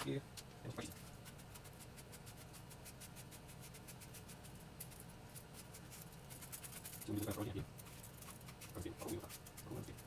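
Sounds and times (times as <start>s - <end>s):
peeler scraping apple skin: 0.8s - 10.0s.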